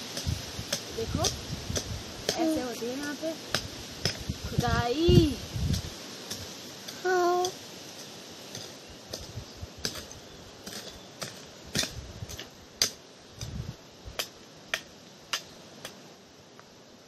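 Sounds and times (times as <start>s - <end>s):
hoe striking stony soil: 0.0s - 4.8s, 5.6s - 16.0s.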